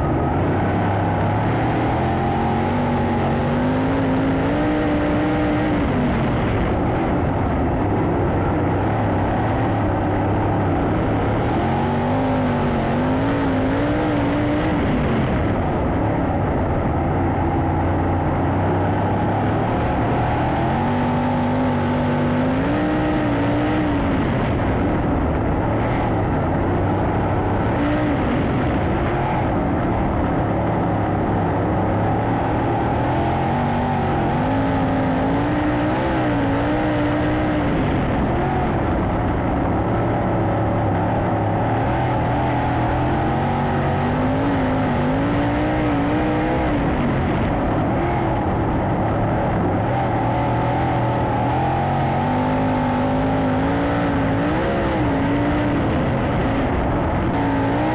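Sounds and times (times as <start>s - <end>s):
racing car engines: 0.0s - 57.9s.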